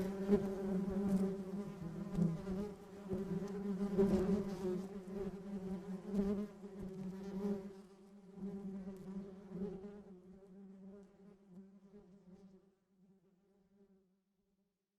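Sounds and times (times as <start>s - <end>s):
bee buzzing in flight: 0.0s - 12.5s.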